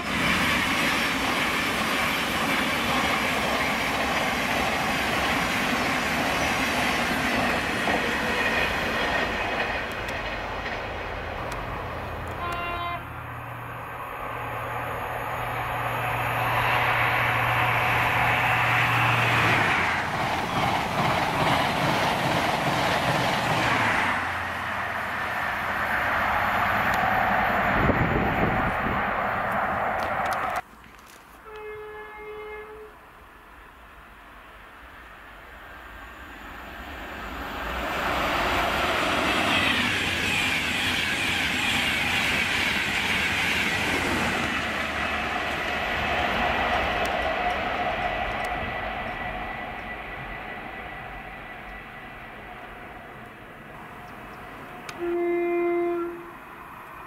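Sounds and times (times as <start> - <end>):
diesel train engine hum: 0.0 - 30.7, 32.1 - 57.0
train wheels rumbling on rails: 0.0 - 31.2, 35.4 - 57.0.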